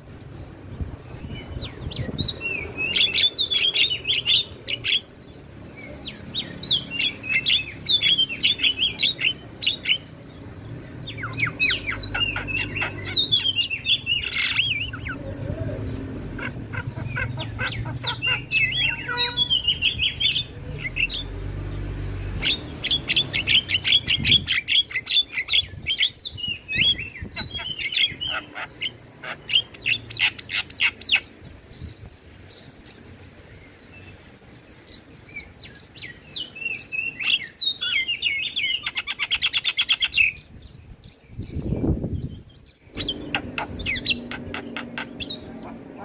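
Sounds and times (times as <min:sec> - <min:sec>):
bird chattering and trilling: 0:01.2 - 0:05.2, 0:05.8 - 0:21.4, 0:22.2 - 0:31.9, 0:36.0 - 0:40.6, 0:41.4 - 0:46.0.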